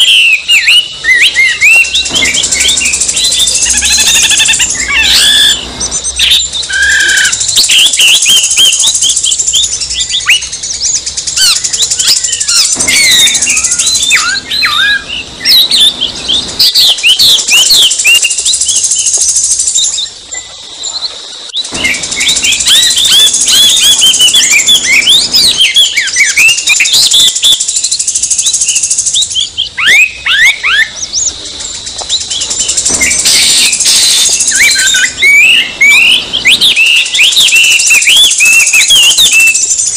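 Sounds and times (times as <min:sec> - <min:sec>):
birds singing whistles and chirps: 0:00.0 - 0:39.9.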